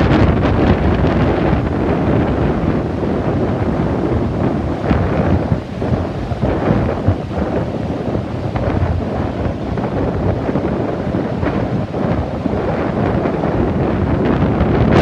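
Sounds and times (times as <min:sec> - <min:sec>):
rough surf: 0:00.0 - 0:15.0
storm wind buffeting microphone: 0:00.0 - 0:15.0.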